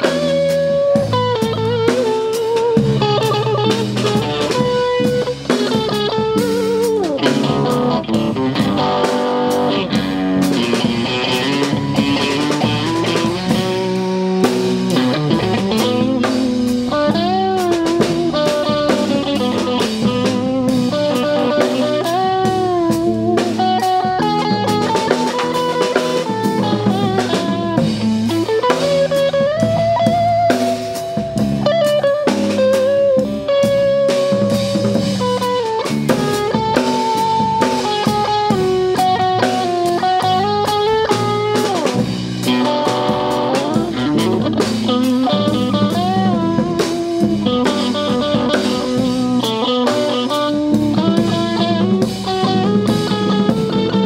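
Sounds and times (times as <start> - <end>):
drum kit: 0.0 - 54.0
electric guitar lead: 0.0 - 54.0
rhythm guitar chords: 0.0 - 54.0.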